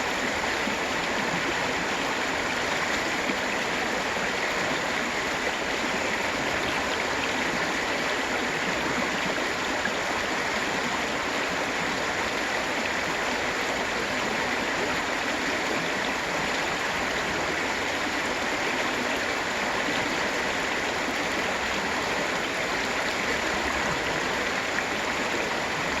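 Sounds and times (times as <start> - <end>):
water rushing over rocks: 0.0 - 26.0.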